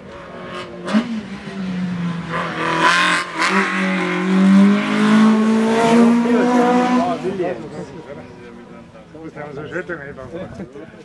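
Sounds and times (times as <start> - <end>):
race car engine revving: 0.0 - 9.4.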